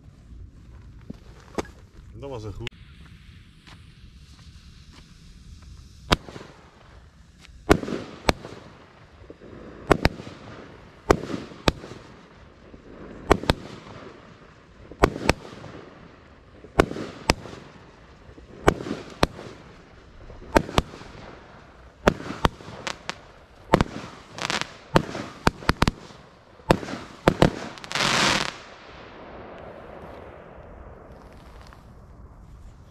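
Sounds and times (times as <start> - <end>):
firework hiss: 1.3 - 32.9
firework cracks: 2.6 - 32.9.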